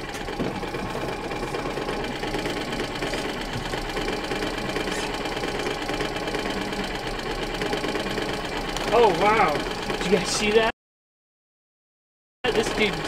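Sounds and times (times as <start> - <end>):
outboard motor running: 0.0 - 10.7, 12.5 - 13.0.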